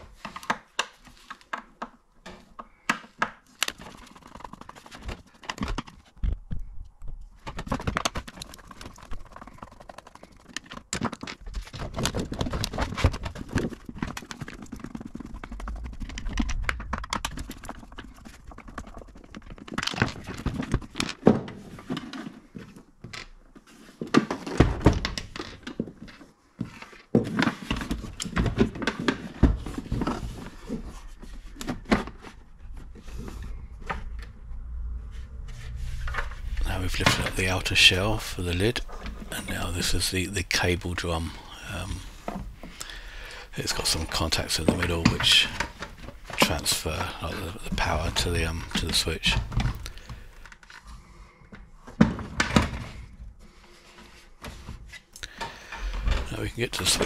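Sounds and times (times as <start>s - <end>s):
plastic shell being handled: 0.0s - 34.5s, 36.1s - 52.8s.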